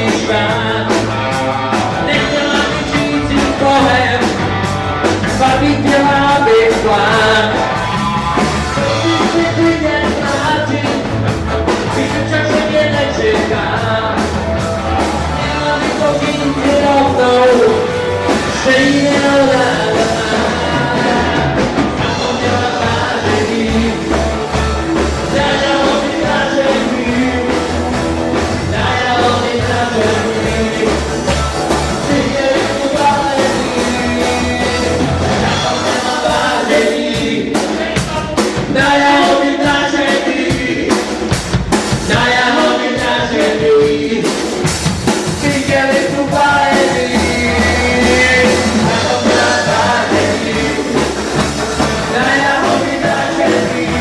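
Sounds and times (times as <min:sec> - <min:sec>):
lead singer singing: 0:00.0 - 0:54.0
rock band playing live: 0:00.0 - 0:54.0.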